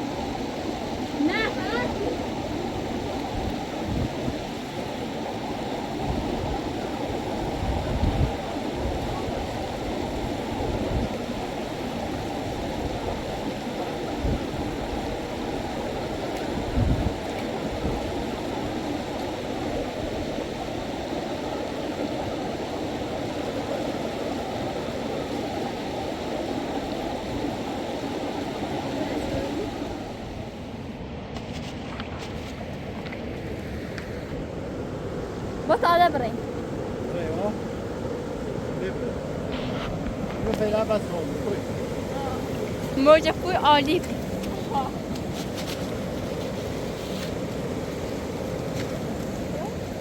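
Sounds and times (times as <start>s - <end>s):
river water rushing: 0.0s - 31.3s, 31.9s - 50.0s.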